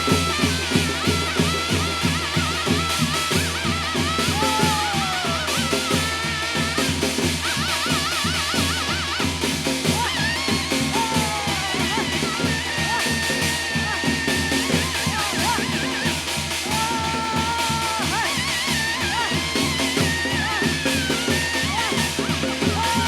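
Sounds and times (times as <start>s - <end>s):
fast steady drumbeat: 0.0s - 23.0s
high wind instrument melody: 0.0s - 23.0s.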